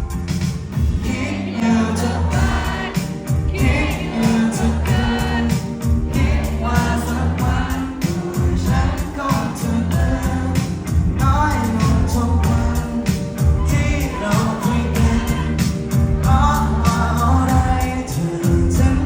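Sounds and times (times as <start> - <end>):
bass: 0.0 - 19.0
drums: 0.0 - 19.0
person singing: 0.9 - 19.0.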